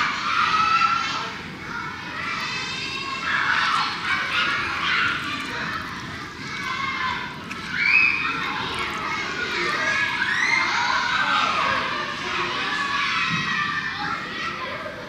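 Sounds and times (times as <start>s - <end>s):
hubbub of voices: 0.0s - 15.0s.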